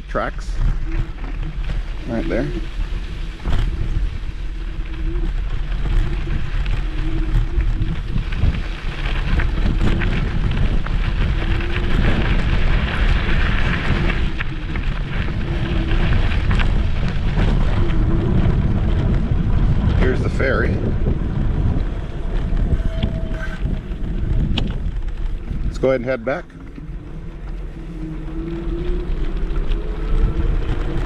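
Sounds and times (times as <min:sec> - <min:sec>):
tyre rumble on dirt track: 0:00.0 - 0:31.0
wind buffeting microphone: 0:00.0 - 0:31.0.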